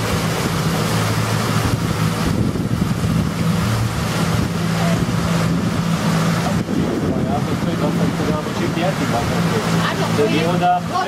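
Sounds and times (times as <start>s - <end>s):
wind on microphone: 0.0s - 10.1s
outboard motor running: 0.0s - 11.0s
water rushing: 0.0s - 11.0s.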